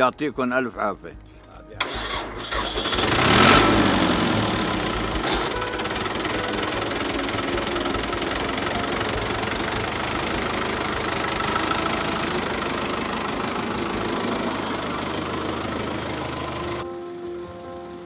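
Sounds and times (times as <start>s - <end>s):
tractor diesel engine running: 1.2s - 18.0s.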